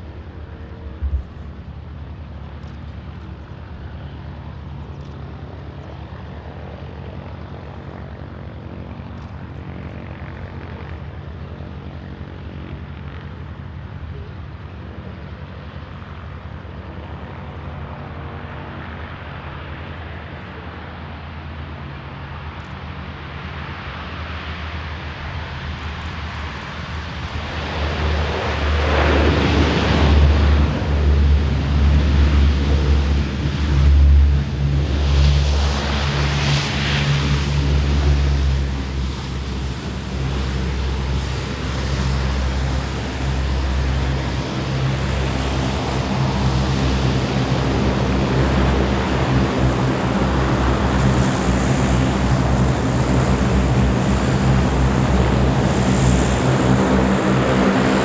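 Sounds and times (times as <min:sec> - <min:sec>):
propeller drone: 0:00.0 - 0:58.0.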